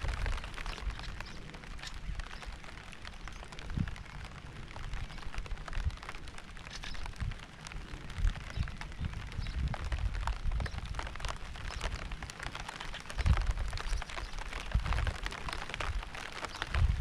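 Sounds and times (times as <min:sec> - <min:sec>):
rain drops hitting: 0:00.0 - 0:17.0.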